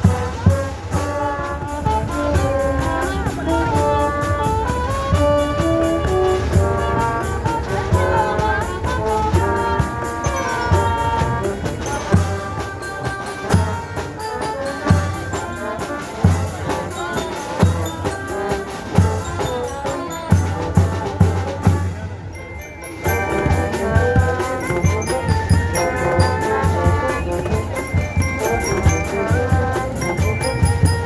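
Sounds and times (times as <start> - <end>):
stepping melody: 0.0 - 31.0.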